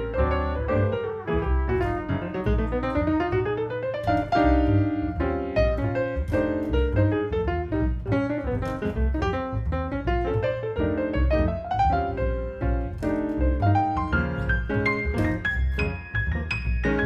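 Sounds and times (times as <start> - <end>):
jazz piano: 0.0 - 17.0
plucked double bass: 0.0 - 17.0.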